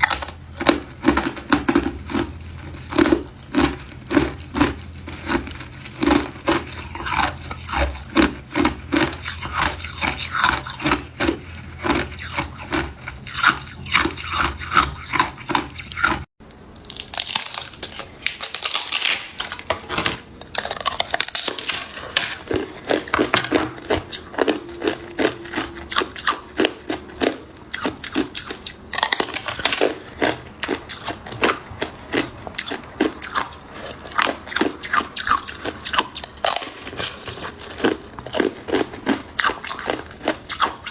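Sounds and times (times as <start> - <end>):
ice cubes being chewed: 0.0 - 40.9.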